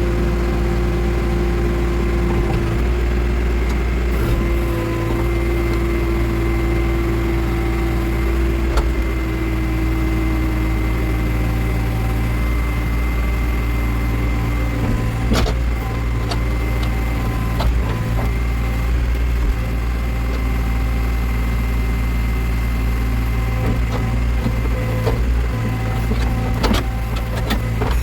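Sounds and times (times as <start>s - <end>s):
diesel engine running with whine: 0.0s - 28.0s.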